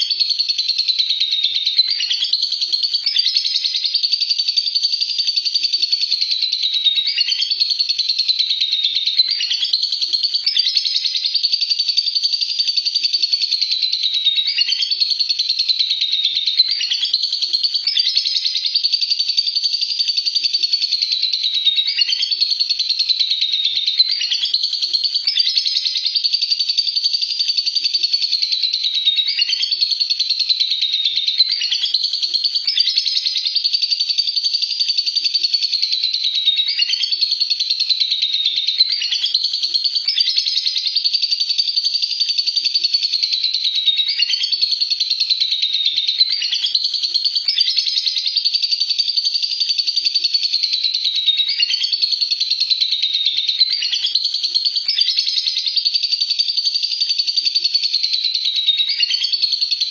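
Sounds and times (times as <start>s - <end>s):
lovebird chattering trill: 0.0s - 59.9s.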